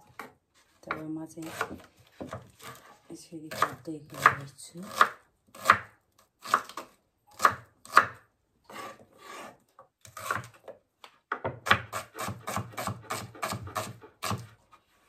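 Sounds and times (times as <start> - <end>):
knife chopping on wooden board: 0.1 - 2.9, 3.5 - 9.5, 10.1 - 14.5.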